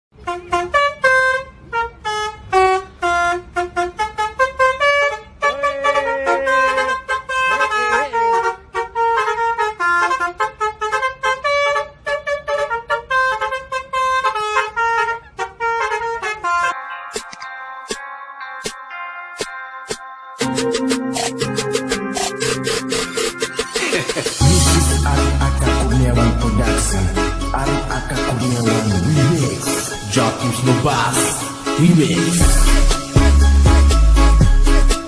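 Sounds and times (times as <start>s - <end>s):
multi-tone bus horn melody: 0.1s - 35.0s.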